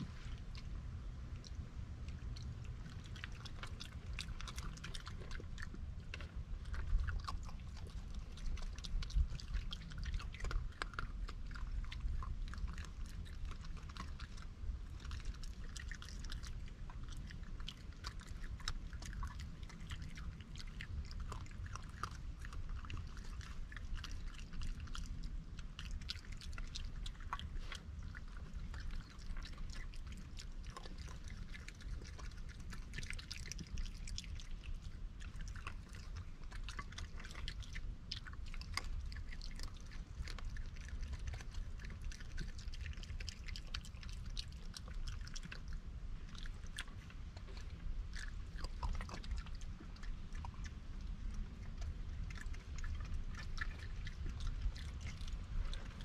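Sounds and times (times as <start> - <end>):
animal chewing dry food: 0.0 - 56.0.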